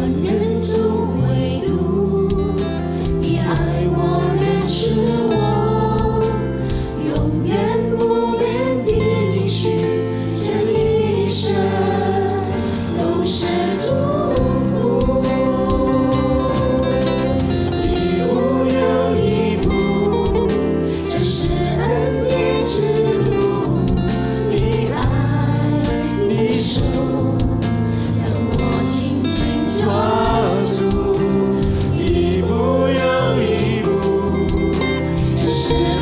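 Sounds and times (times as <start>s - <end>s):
group singing slow worship song: 0.0s - 36.0s
sustained instrumental accompaniment: 0.0s - 36.0s.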